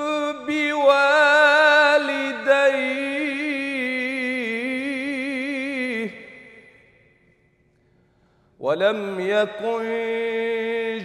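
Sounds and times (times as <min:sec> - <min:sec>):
man chanting melodically: 0:00.0 - 0:06.7, 0:08.6 - 0:11.0.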